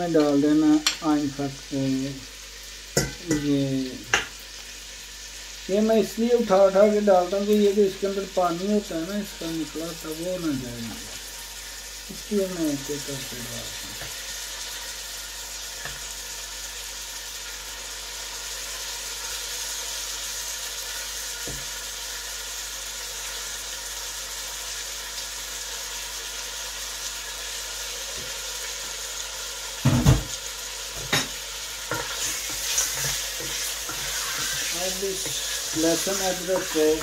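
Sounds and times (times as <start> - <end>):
meat sizzling in ghee: 0.0 - 37.0.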